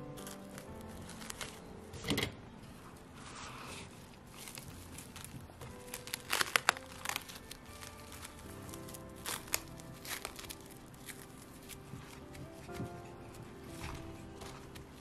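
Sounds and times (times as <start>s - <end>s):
cling film crinkling: 0.0s - 2.0s, 3.3s - 15.0s.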